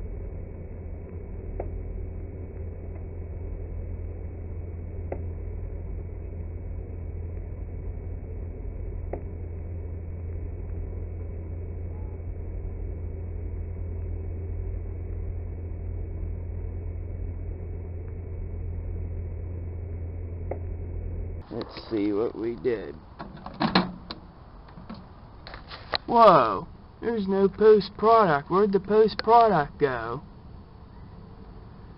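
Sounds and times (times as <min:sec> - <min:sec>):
deep muffled microwave hum: 0:00.0 - 0:31.9.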